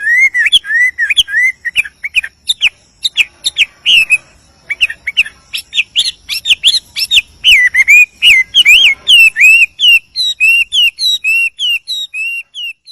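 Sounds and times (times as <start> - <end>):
bird whistling song: 0.0 - 12.9.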